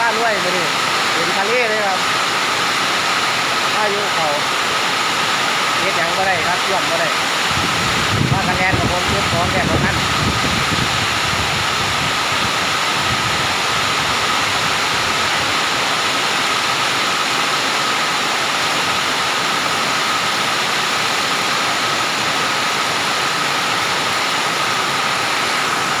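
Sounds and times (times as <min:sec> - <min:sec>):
heavy rain and wind: 0:00.0 - 0:26.0.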